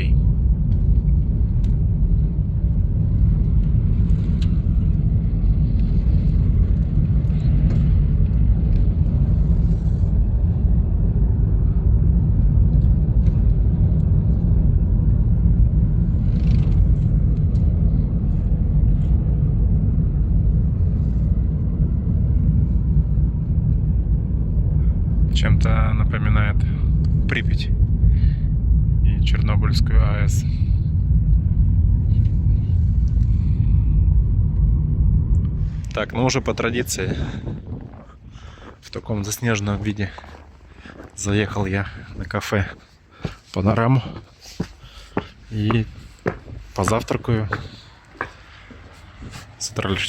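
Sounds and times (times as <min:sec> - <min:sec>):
car interior road noise: 0:00.0 - 0:38.2, 0:38.9 - 0:50.0.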